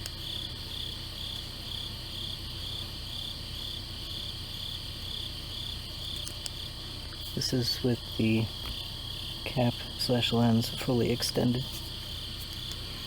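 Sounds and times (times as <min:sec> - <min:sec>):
crickets chirping: 0:00.0 - 0:13.0
low steady hum: 0:00.0 - 0:13.0.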